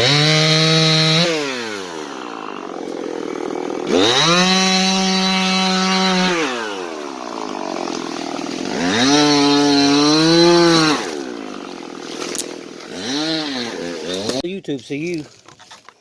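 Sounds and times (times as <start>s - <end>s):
chainsaw idling and revving: 0.0s - 15.8s.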